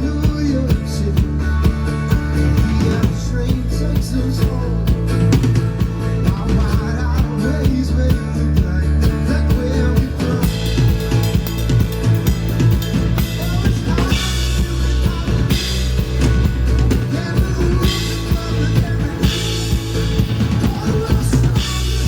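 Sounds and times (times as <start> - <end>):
bass guitar: 0.0 - 22.0
drum kit: 0.0 - 22.0
guitar: 0.0 - 22.0.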